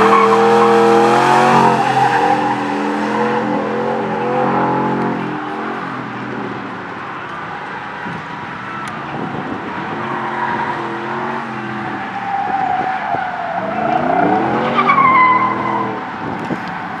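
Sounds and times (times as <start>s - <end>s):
car engine working hard: 0.0s - 17.0s.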